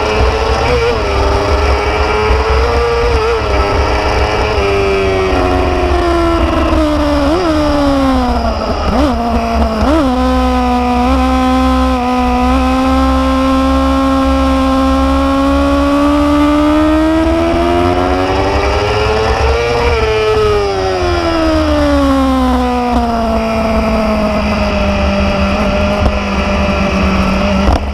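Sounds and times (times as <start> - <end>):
motorcycle engine: 0.0 - 27.9.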